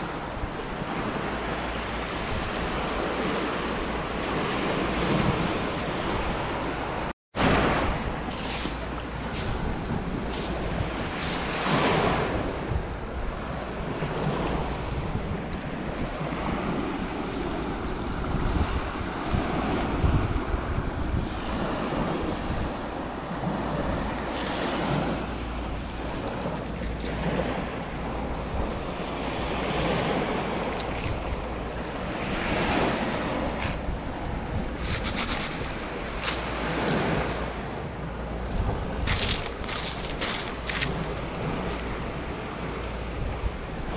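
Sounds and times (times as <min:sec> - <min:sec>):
surf washing onto shore: 0:00.0 - 0:43.9
wind buffeting microphone: 0:00.0 - 0:43.9.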